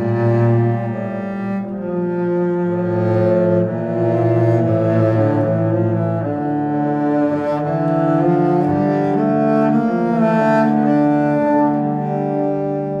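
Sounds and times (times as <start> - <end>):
slow low cello-like melody: 0.0 - 13.0.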